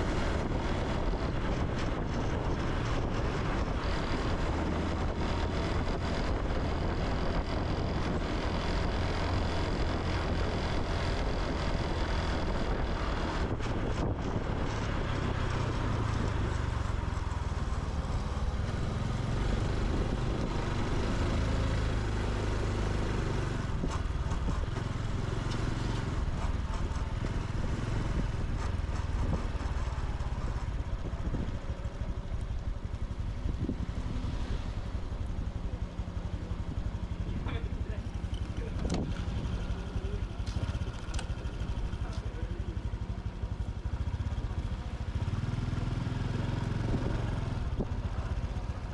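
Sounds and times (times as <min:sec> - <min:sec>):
motorcycle engine running: 0:00.0 - 0:48.9
road and wind noise: 0:00.0 - 0:48.9.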